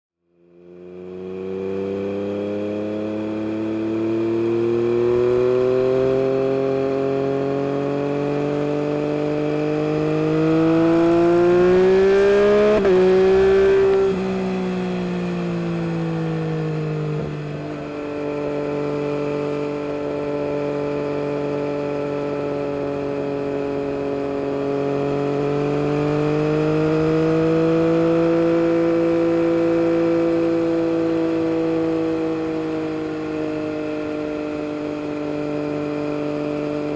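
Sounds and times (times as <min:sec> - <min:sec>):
motorcycle engine revving: 0:00.4 - 0:36.9.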